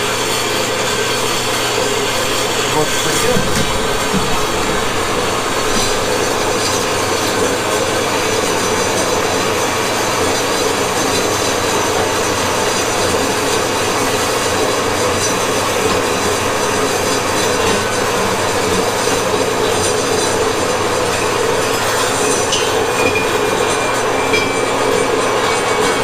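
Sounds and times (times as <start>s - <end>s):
power tool cutting metal: 0.0s - 26.0s.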